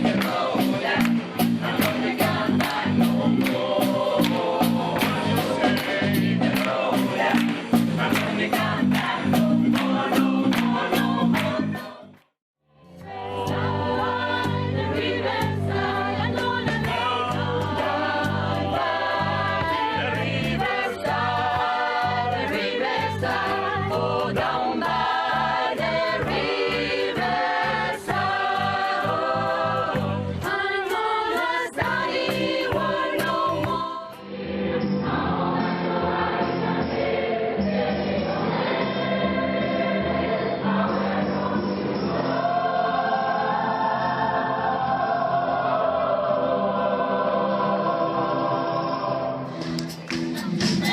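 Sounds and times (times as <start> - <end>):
rhythmic music: 0.0 - 12.2, 12.9 - 44.3, 49.3 - 50.9
gospel choir singing in harmony: 0.0 - 12.3, 13.0 - 49.8.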